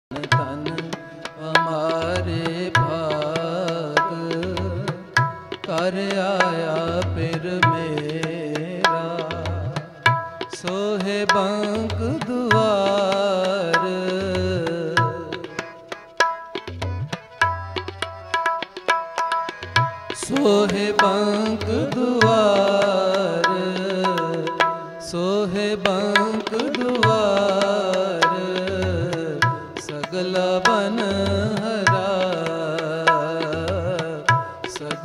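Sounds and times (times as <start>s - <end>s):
man singing: 0.1s - 16.0s, 20.0s - 35.0s
harmonium chords: 0.1s - 35.0s
tabla strokes: 0.1s - 35.0s.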